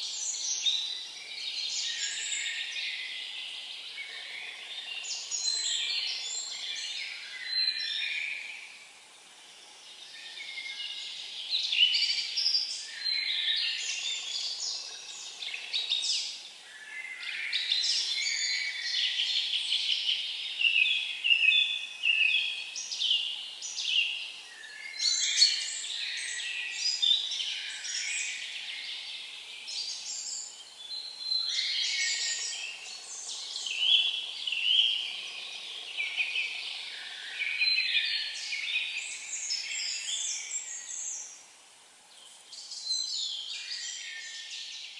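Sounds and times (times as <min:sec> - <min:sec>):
songbirds singing: 0:00.0 - 0:44.9.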